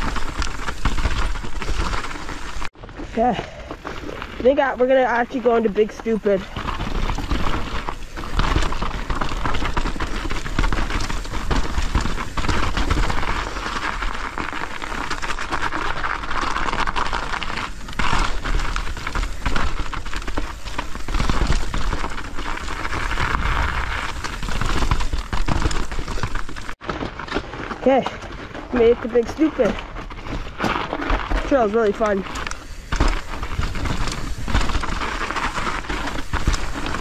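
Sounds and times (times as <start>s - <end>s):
bike clicking and rattling: 0.0s - 37.0s
bike tyres rushing on snow: 0.0s - 37.0s.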